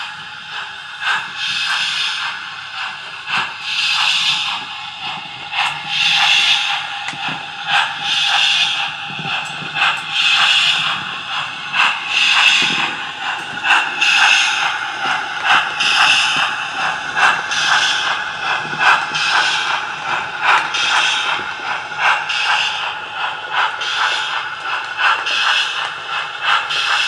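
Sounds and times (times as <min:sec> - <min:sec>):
model locomotive chuffing: 0:00.0 - 0:27.0
model train clicking on track: 0:00.0 - 0:27.0.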